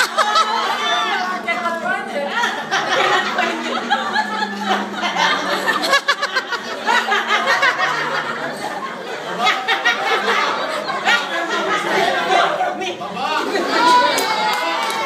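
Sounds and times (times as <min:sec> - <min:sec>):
group of people laughing: 0:00.0 - 0:15.0.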